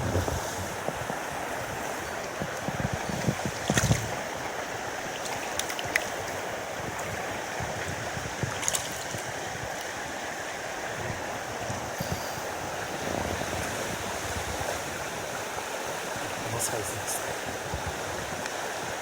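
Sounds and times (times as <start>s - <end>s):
mountain stream flowing: 0.0s - 19.0s.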